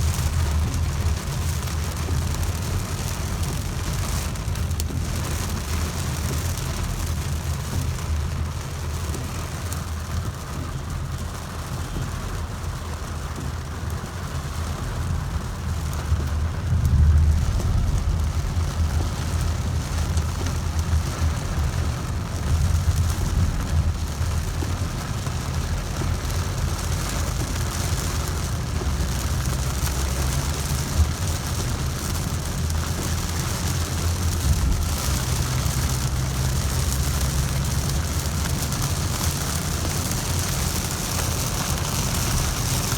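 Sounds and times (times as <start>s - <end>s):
deep rumble: 0.0s - 10.8s, 14.7s - 42.9s
heavy rain falling: 0.0s - 42.9s.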